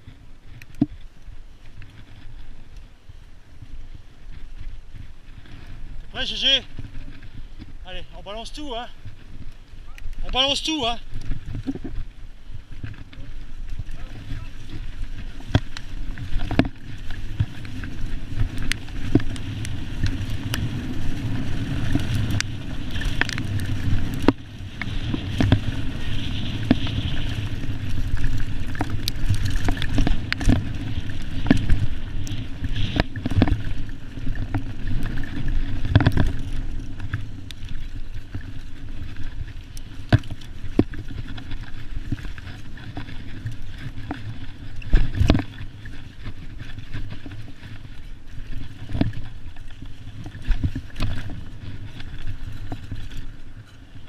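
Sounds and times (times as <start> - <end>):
bike tyres rumbling on dirt: 0.0 - 54.0
bike knocking and rattling: 3.9 - 54.0.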